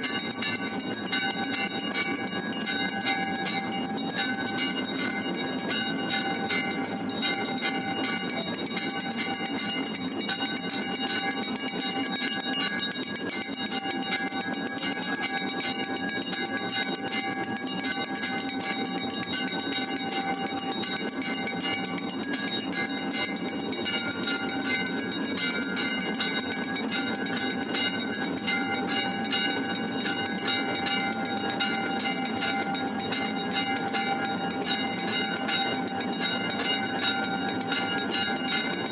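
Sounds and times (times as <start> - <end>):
bells clanging: 0.0 - 38.9.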